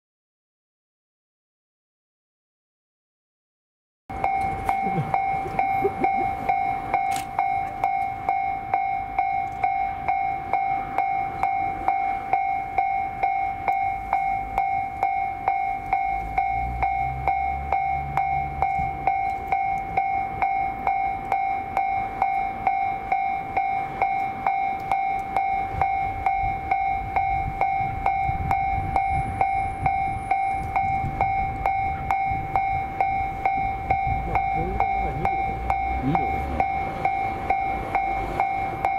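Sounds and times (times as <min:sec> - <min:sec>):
level crossing alarm ringing: 0:04.1 - 0:38.9.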